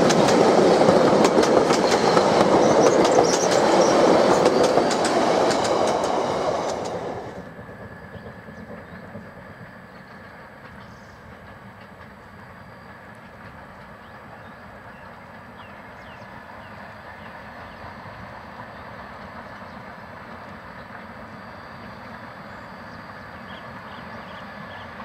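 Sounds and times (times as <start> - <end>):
distant steam train running: 0.0 - 25.0.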